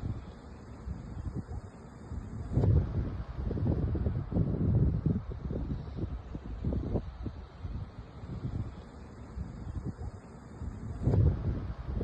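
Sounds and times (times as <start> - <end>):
wind blowing in gusts: 0.0 - 12.0.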